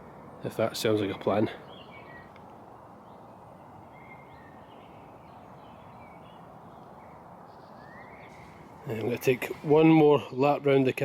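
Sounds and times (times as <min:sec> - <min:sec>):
faint birdsong chirps: 0:00.0 - 0:11.0
low background hiss: 0:00.0 - 0:11.0.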